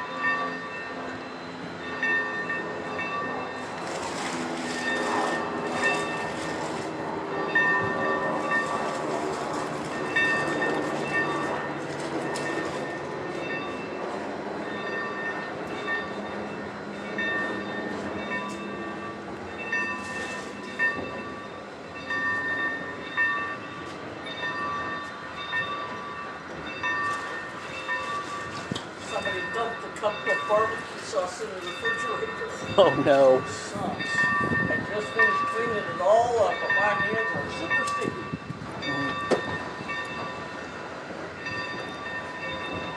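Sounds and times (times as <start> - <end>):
bell ringing: 0.0 - 4.0, 4.6 - 6.6, 7.3 - 9.1, 9.8 - 40.8, 41.4 - 42.9
moving train: 0.0 - 42.9.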